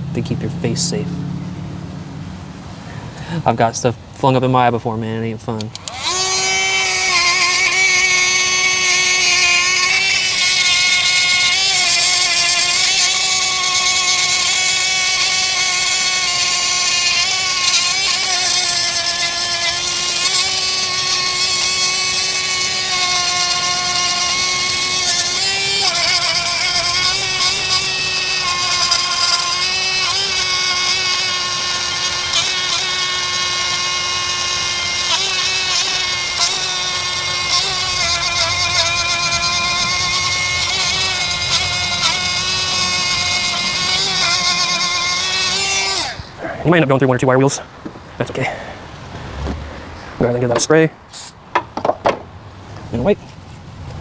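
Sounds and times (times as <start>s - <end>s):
power tool wire wheel whining: 5.4s - 54.0s.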